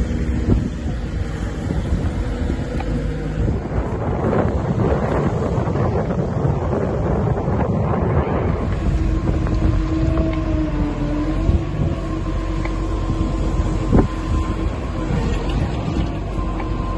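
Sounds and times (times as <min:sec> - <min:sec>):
engine drone: 0:00.0 - 0:16.9
wind buffeting microphone: 0:00.0 - 0:16.9.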